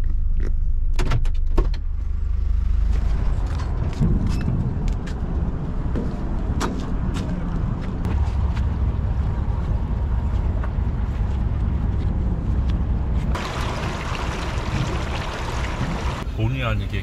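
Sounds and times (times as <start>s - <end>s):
vehicle engines rumbling: 1.8s - 17.0s.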